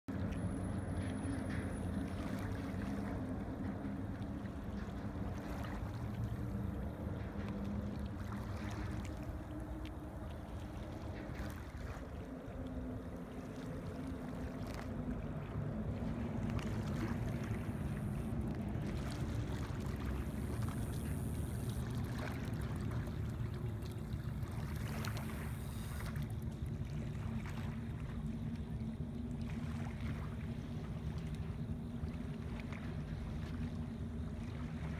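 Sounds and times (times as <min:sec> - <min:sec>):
low rumble: 0:00.1 - 0:34.9
water lapping on a bank: 0:00.1 - 0:34.9.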